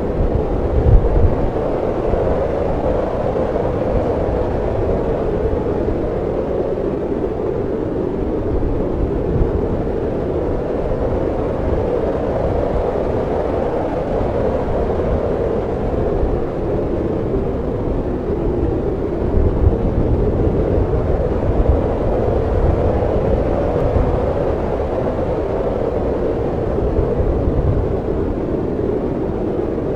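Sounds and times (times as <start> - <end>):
storm wind blowing: 0.0 - 29.9.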